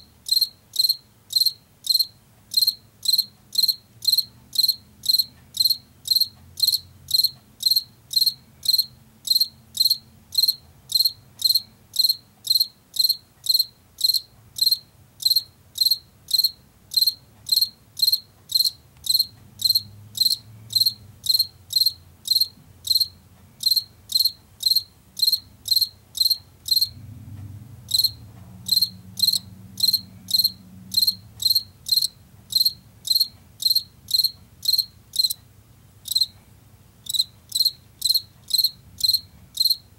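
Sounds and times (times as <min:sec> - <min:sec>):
cricket chirping: 0:00.0 - 0:27.0, 0:27.9 - 0:35.4, 0:36.0 - 0:36.4, 0:37.0 - 0:39.9.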